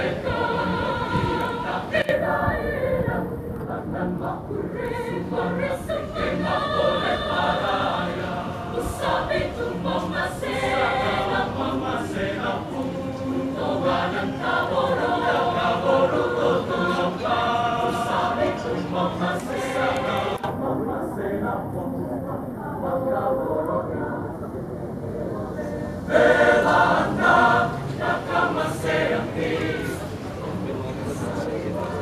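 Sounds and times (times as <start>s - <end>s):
mixed choir singing: 0.0s - 24.4s, 25.6s - 32.0s.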